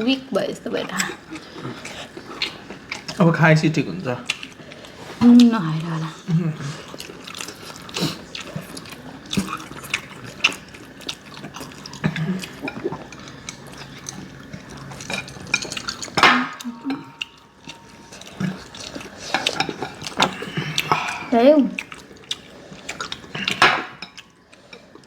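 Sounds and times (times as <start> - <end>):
wet slurping and chewing: 1.0 - 3.3, 4.2 - 25.0.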